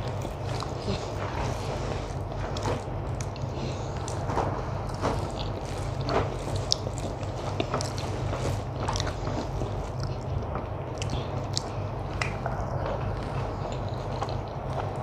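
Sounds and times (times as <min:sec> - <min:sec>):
fingers mixing food on a plate: 0:00.0 - 0:15.0
person chewing food: 0:00.0 - 0:15.0
steady low hum: 0:00.0 - 0:15.0.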